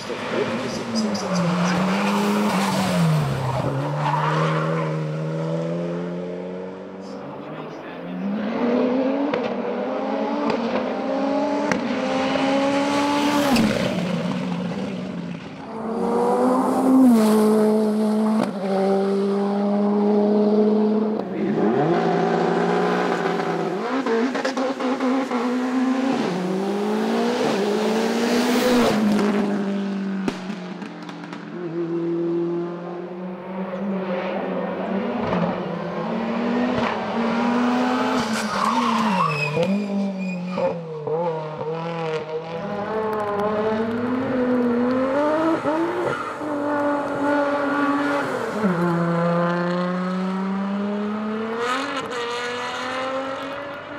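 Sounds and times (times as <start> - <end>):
racing car engines at full throttle: 0.0 - 53.9.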